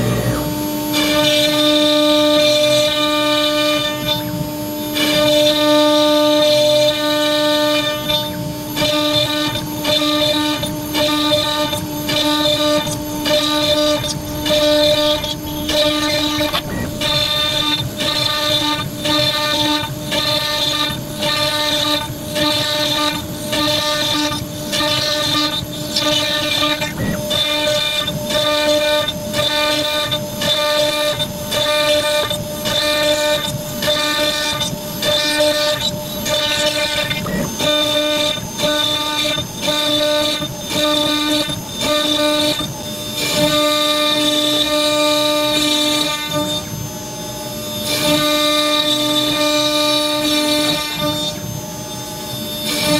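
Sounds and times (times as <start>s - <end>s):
cnc router whine: 0.0s - 52.9s.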